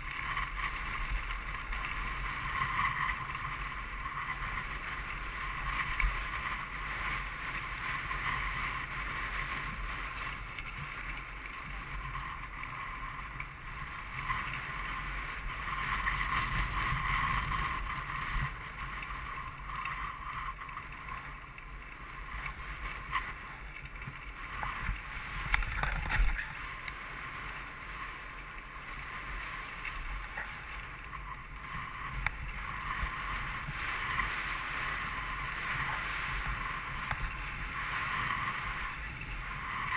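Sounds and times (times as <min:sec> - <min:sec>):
tyre noise on asphalt: 0:00.0 - 0:39.9
wind rushing over camera: 0:00.0 - 0:39.9.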